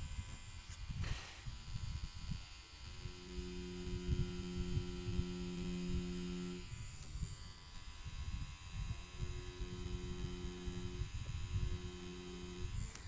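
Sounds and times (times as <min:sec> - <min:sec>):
tattoo machine humming: 0:00.0 - 0:13.0.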